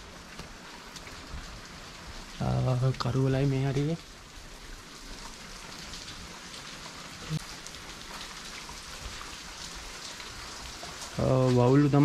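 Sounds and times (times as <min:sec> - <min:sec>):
water dripping and splashing: 0:00.0 - 0:12.0.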